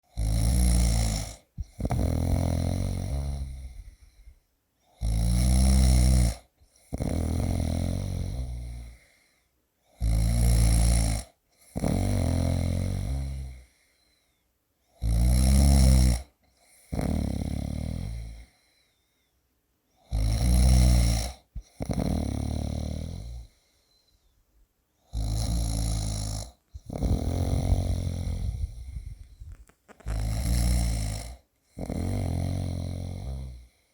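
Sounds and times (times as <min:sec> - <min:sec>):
person snoring like a pig: 0:00.0 - 0:04.1, 0:04.9 - 0:09.1, 0:09.9 - 0:13.7, 0:15.0 - 0:18.6, 0:20.0 - 0:23.6, 0:25.0 - 0:33.8.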